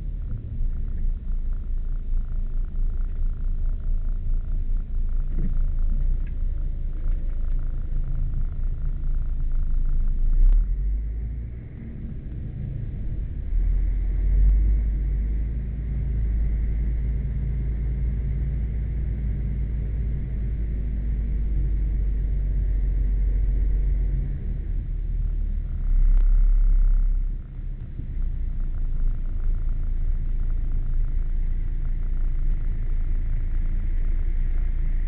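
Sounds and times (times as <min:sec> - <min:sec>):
car engine low rumble: 0:00.0 - 0:35.0.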